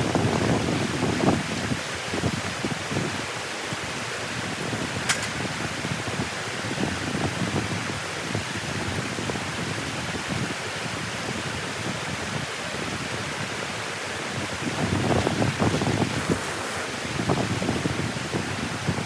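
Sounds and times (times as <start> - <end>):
wind on microphone: 0.0 - 19.0
water rushing: 0.2 - 19.0.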